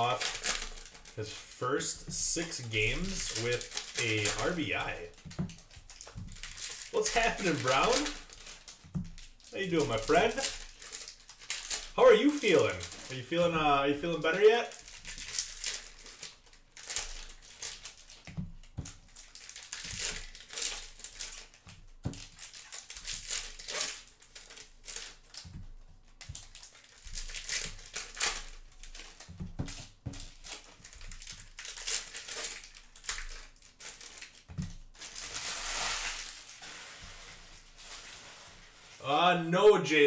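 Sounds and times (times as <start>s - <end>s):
cards rustling and sliding: 0.0s - 21.6s, 26.1s - 39.0s.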